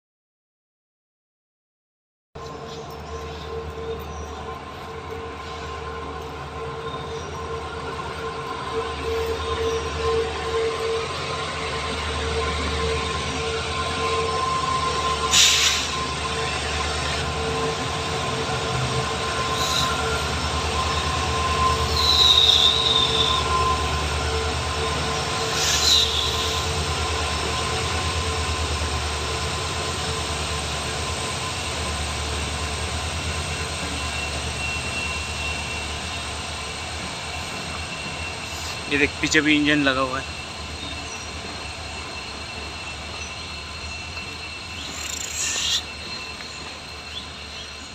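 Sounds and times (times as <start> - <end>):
high wheel squeal: 2.4 - 47.9
train running past: 2.4 - 47.9.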